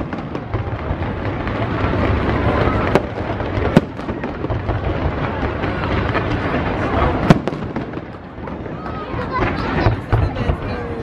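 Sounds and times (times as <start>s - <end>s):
fireworks bursting and crackling: 0.0s - 11.0s
sharp firework bangs: 0.0s - 11.0s.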